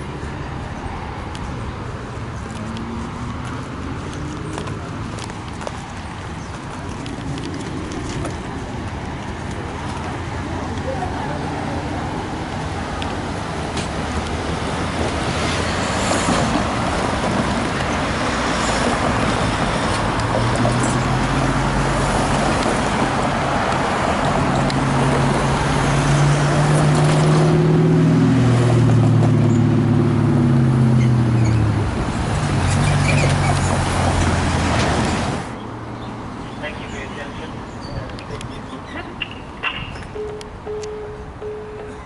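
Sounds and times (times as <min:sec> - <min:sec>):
passing vehicle engine hum: 0:00.0 - 0:36.9, 0:37.5 - 0:42.0
road traffic roar: 0:00.0 - 0:42.0.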